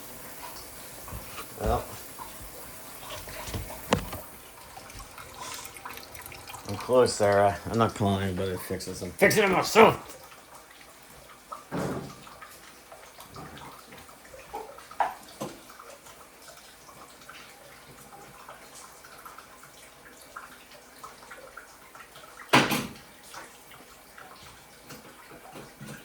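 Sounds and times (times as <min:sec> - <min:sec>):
water running and dripping: 0:00.0 - 0:26.0.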